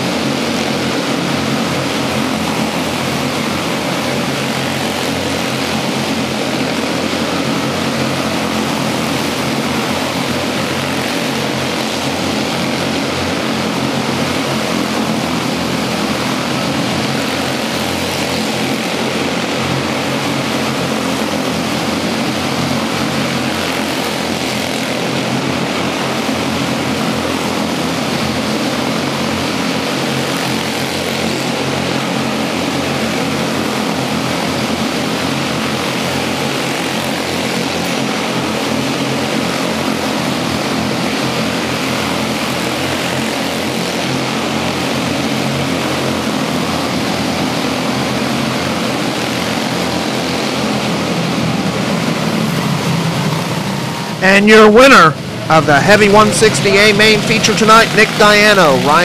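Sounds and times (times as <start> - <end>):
small race car engines buzzing: 0.0 - 59.0.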